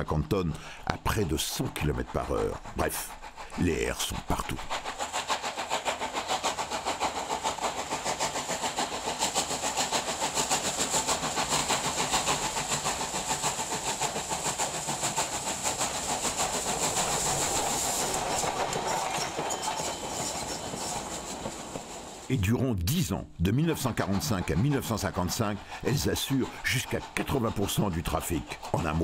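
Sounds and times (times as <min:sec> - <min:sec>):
steam hiss: 0:00.0 - 0:29.0
steam train passing: 0:00.0 - 0:29.0.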